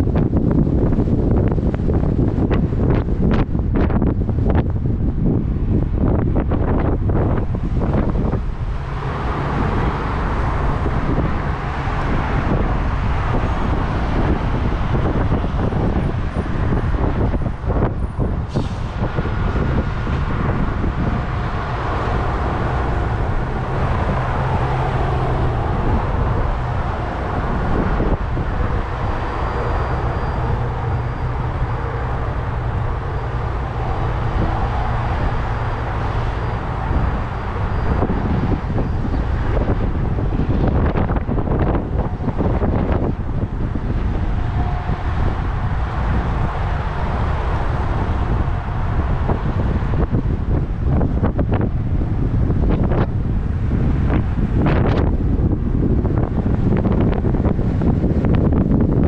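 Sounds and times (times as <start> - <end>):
idling engines and passing traffic: 0.0 - 59.0.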